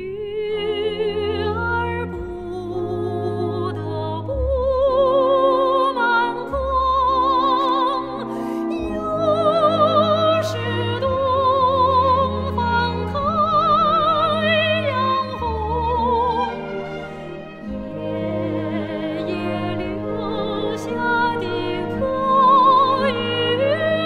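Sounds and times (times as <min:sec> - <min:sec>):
instrumental accompaniment: 0:00.0 - 0:24.0
woman singing opera: 0:00.0 - 0:24.0.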